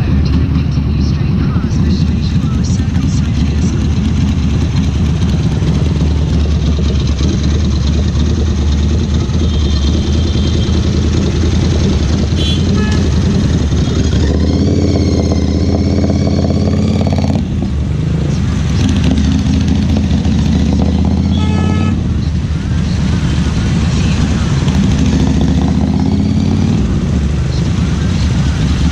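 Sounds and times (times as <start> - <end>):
motorcycle engine and exhaust: 0.0 - 28.9.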